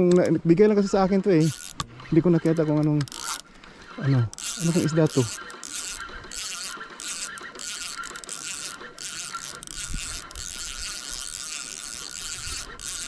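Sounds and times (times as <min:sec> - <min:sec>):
fishing reel gears whirring: 0:00.1 - 0:13.0.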